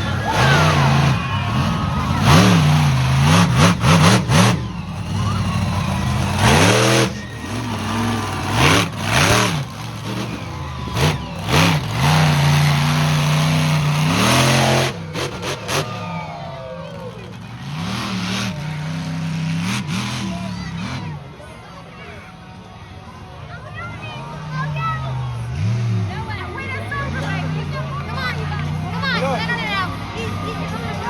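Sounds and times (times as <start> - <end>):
monster truck engine revving: 0.0 - 22.0, 23.9 - 31.0.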